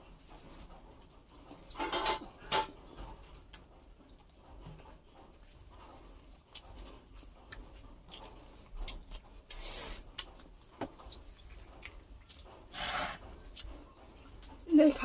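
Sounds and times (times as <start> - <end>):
chewing and handling food: 0.0 - 15.0.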